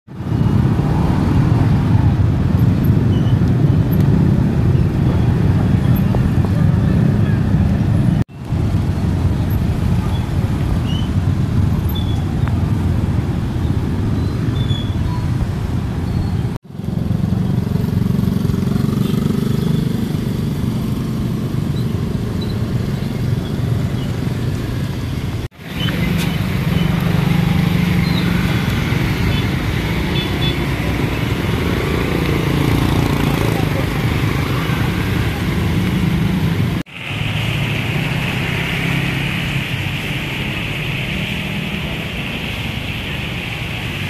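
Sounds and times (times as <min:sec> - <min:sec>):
motorcycle traffic passing: 0:00.1 - 0:44.0.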